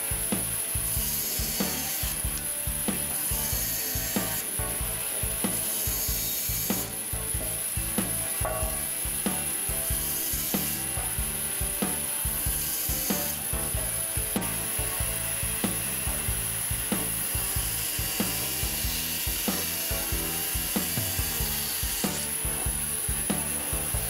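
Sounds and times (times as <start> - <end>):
bandsaw cutting wood: 0.0 - 24.0.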